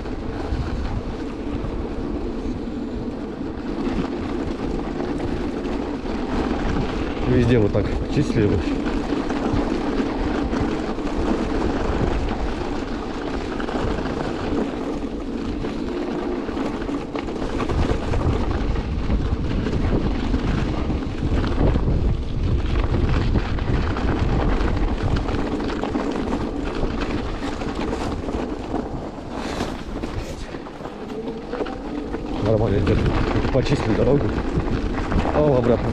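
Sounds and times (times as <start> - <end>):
electric scooter riding noise: 0.0 - 35.9
wind buffeting microphone: 0.0 - 35.9.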